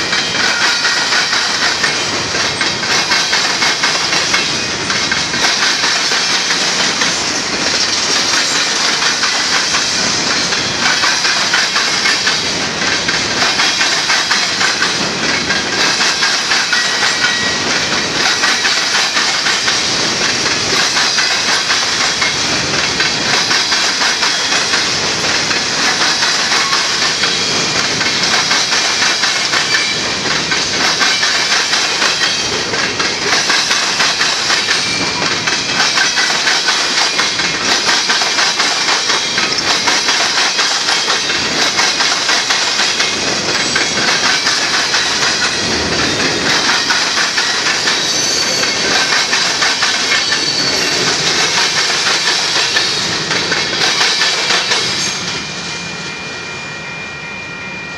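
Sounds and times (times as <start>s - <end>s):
train wheels clickety-clack: 0.0s - 55.6s.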